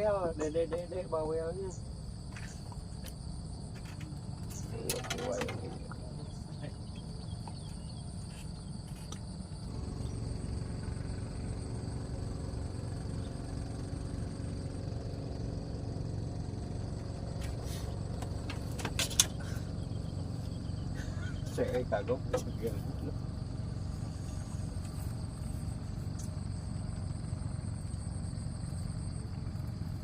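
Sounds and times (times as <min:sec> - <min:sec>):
engine rumbling: 0:00.0 - 0:30.0.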